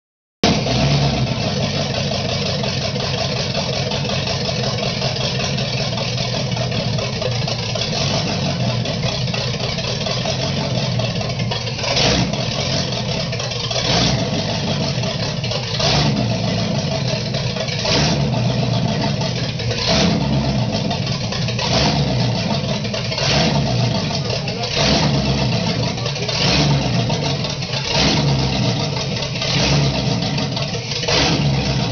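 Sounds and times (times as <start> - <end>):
engine running and revving: 0.4 - 31.9.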